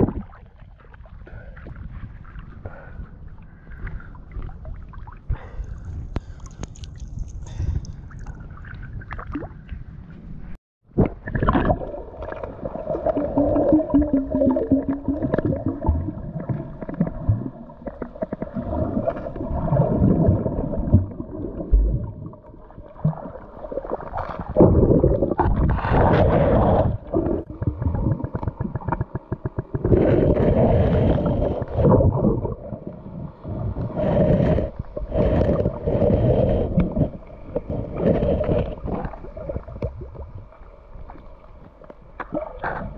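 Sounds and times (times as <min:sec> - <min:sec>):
muffled water sloshing underwater: 0:00.0 - 0:42.9.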